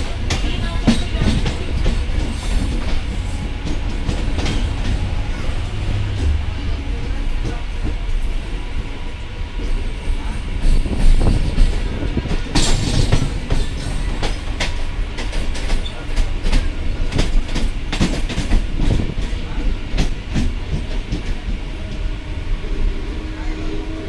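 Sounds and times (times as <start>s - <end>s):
wheels clacking over rail joints: 0.0s - 8.1s, 10.6s - 22.1s
train running low rumble: 0.0s - 24.0s.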